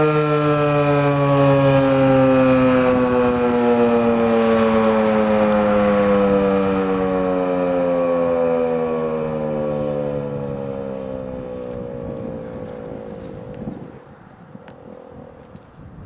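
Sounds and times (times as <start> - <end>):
warning siren winding down: 0.0 - 15.8.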